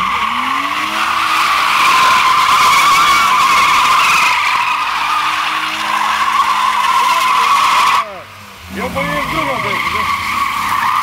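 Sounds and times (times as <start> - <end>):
car engine at high revs: 0.0 - 11.0
tyres squealing: 0.0 - 11.0.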